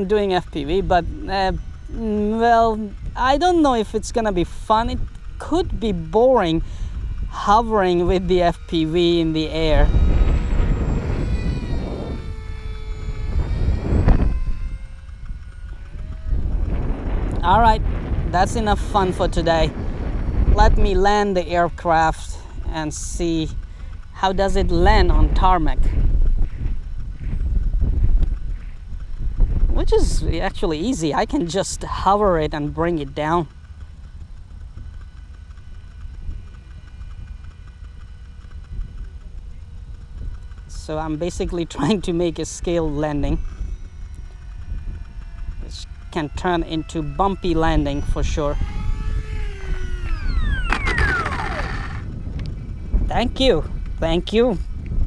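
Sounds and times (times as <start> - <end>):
model glider motor whining: 0.0 - 55.0
wind rumble on microphone: 0.0 - 55.0.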